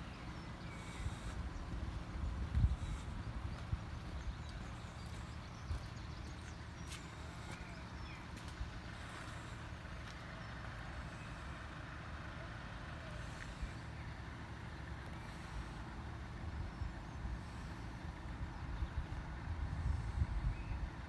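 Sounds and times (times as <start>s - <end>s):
diesel train rumble: 0.0s - 21.0s
road vehicles idling: 0.0s - 21.0s.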